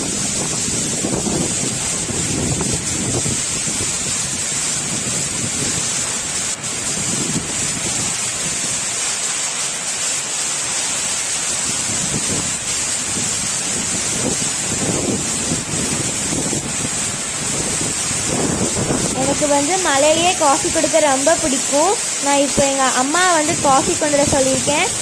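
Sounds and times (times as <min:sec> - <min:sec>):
wind gusts rumbling on microphone: 0:00.0 - 0:09.0, 0:11.5 - 0:25.0
heavy rain pouring: 0:00.0 - 0:25.0
strong wind thrashing palms: 0:00.0 - 0:25.0.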